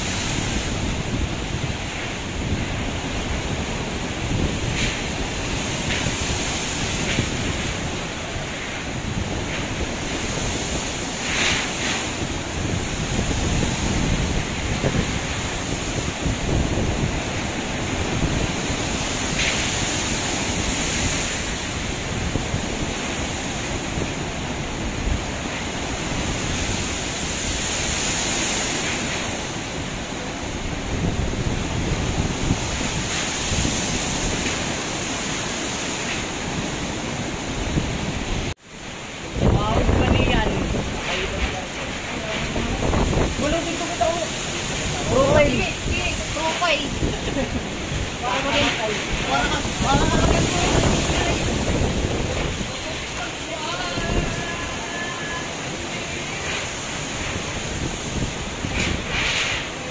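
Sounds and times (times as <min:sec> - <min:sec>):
gusting wind on microphone: 0:00.0 - 0:59.9
surf crashing against pier: 0:00.0 - 0:59.9.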